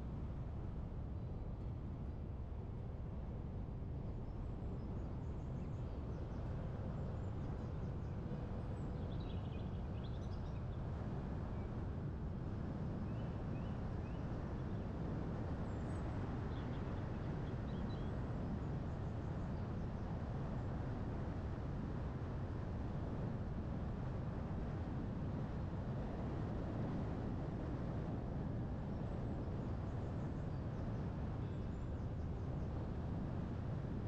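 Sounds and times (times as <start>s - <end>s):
low rumble of wind: 0.0s - 34.0s.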